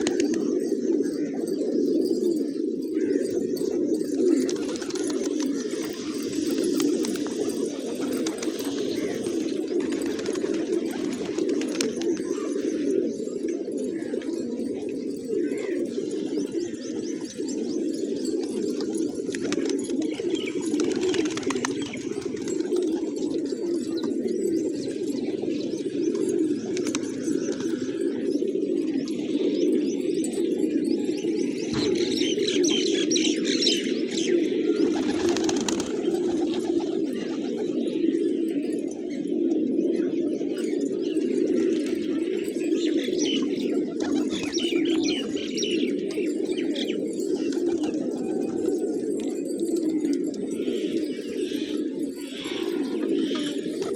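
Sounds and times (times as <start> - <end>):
pigeons cooing: 0.0 - 53.9.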